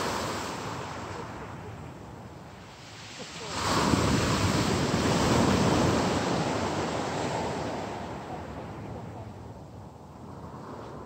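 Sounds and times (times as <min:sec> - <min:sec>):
surf rushing up pebble beach: 0:00.0 - 0:11.0.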